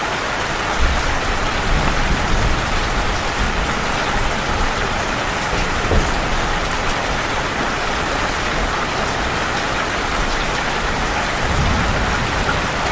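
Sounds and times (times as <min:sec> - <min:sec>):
steady rain hiss: 0:00.0 - 0:12.9.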